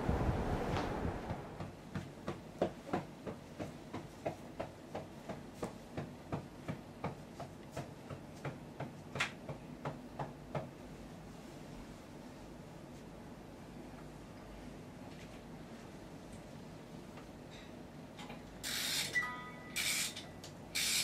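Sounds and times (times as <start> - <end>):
faint steady hum: 0.0 - 2.6, 3.2 - 21.0.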